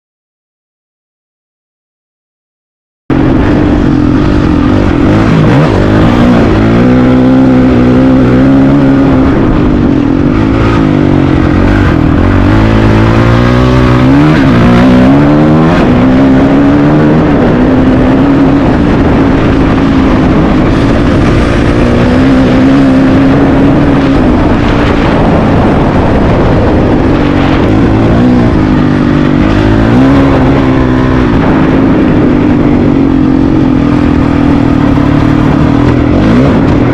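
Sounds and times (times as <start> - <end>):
motorcycle engine revving: 3.1 - 36.9.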